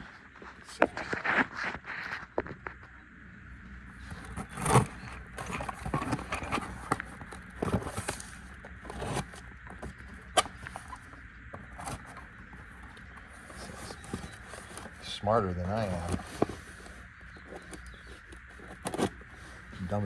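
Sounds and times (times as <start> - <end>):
cardboard scrapes and rustles: 0.0 - 2.8, 3.9 - 20.0.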